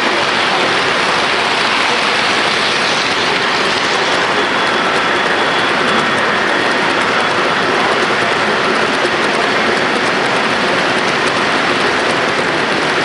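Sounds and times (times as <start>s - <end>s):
model train rolling hiss: 0.0s - 13.0s.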